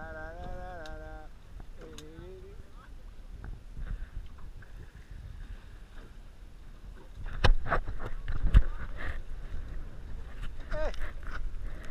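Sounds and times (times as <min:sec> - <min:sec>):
sea noise: 0:00.0 - 0:11.9
wind: 0:00.0 - 0:11.9.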